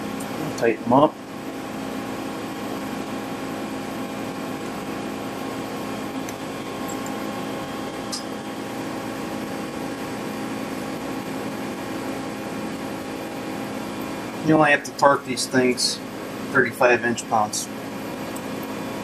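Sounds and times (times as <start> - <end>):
machine shop hum: 0.0 - 19.0.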